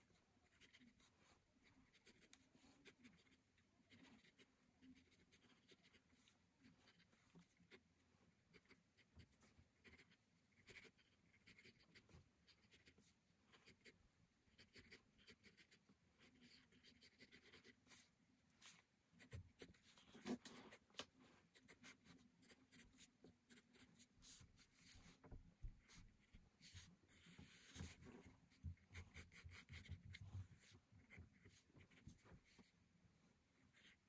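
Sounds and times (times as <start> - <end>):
pencil scratching on paper: 0.4 - 7.9, 8.5 - 32.8, 33.6 - 34.0.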